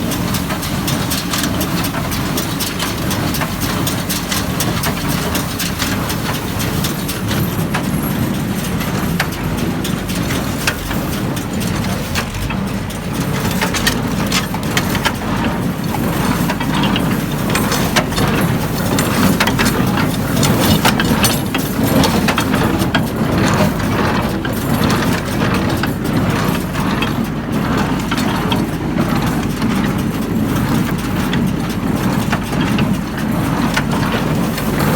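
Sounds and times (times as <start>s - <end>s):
hay baler knocking: 0.0s - 34.9s
tractor engine drone: 0.0s - 34.9s.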